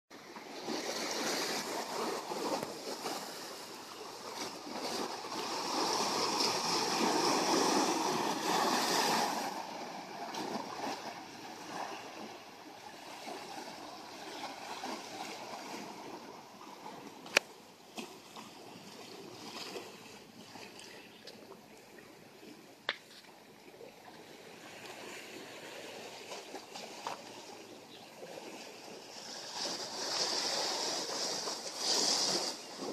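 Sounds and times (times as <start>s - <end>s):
sea waves splashing among boulders: 0.2s - 32.9s.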